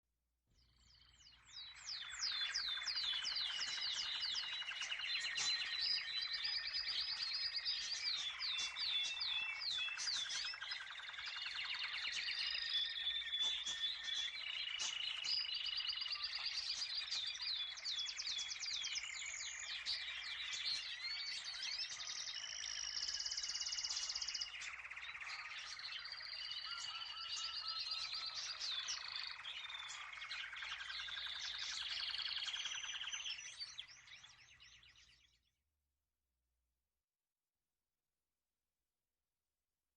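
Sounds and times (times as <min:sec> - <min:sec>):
canary singing trills: 0:00.8 - 0:35.5.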